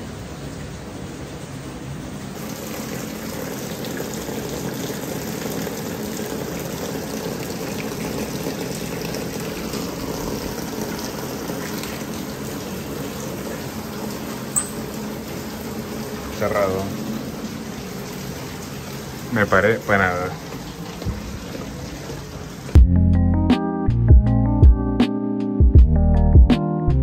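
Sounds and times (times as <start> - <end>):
rush of running water: 0.0 - 22.8.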